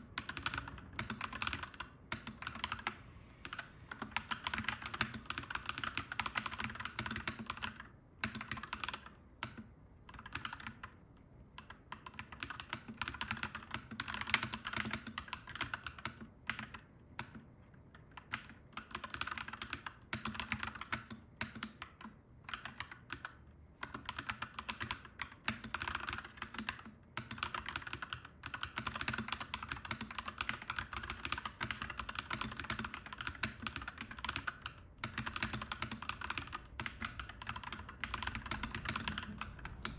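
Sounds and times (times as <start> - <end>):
mechanical keyboard typing: 0.0 - 11.0, 11.6 - 39.9.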